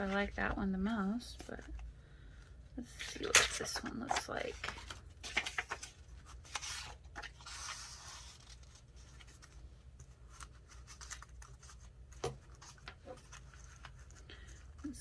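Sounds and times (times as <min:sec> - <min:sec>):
paper rustling: 0:00.0 - 0:01.9, 0:02.9 - 0:15.0.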